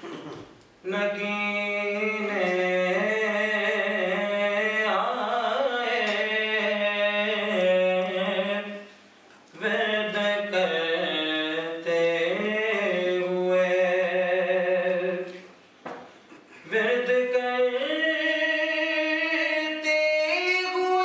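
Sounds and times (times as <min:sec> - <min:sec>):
man chanting: 0:00.8 - 0:08.9, 0:09.6 - 0:15.4, 0:16.6 - 0:21.0.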